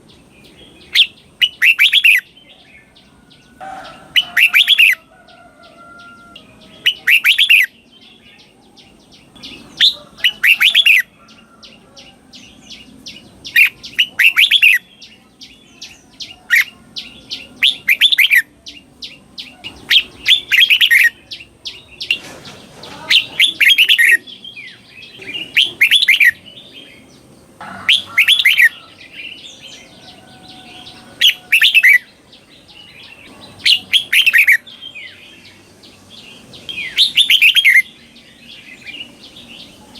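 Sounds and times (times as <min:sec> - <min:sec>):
bulbul warbled song: 0:00.0 - 0:39.9.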